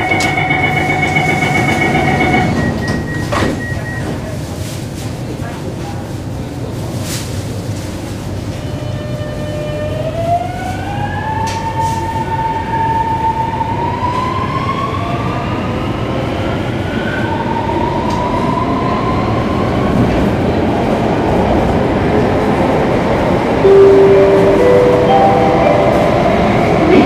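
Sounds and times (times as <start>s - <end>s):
rumble of wheels on rail: 0.0s - 27.0s.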